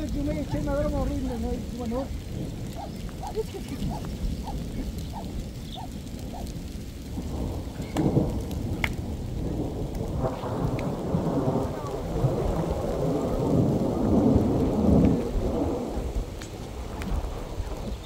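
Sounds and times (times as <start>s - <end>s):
heavy rain: 0.0s - 18.0s
rolling thunder: 0.0s - 18.0s.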